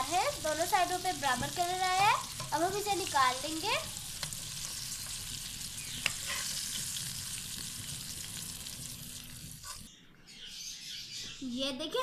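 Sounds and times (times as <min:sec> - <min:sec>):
chicken deep-frying sizzle: 0:00.0 - 0:09.9.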